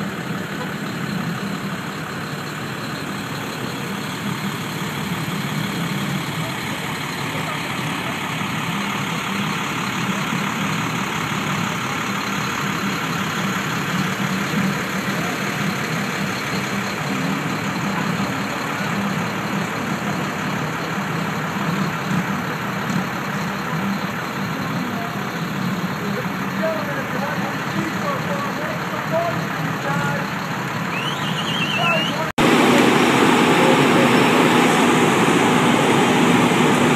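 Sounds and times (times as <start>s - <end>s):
motorcycle engines idling: 0.0s - 36.9s.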